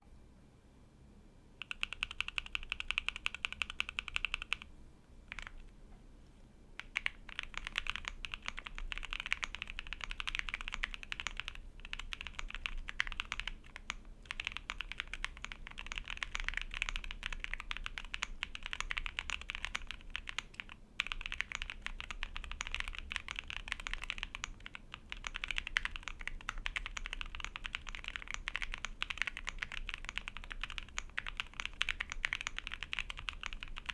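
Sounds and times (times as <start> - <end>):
typing on mechanical keyboard: 1.6 - 4.7, 5.3 - 5.6, 6.8 - 33.9.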